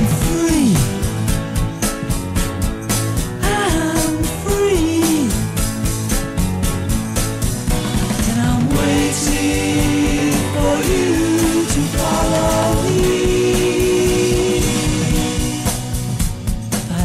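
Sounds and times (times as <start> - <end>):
band with guitar and beat: 0.0 - 17.0.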